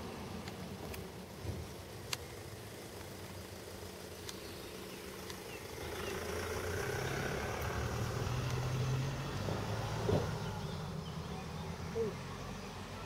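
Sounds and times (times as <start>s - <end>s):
low steady engine hum: 0.0s - 13.0s.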